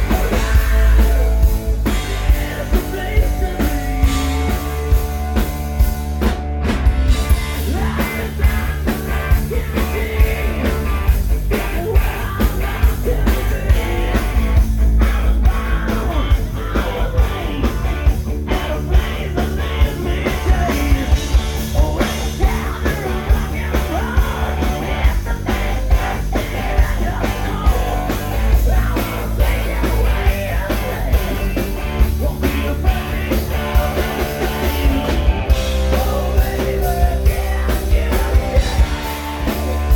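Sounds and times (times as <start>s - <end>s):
person singing: 0.0s - 5.1s, 7.5s - 39.9s
drum beat: 0.0s - 39.9s
heavy bass: 0.0s - 39.9s
rock band playing: 0.0s - 39.9s.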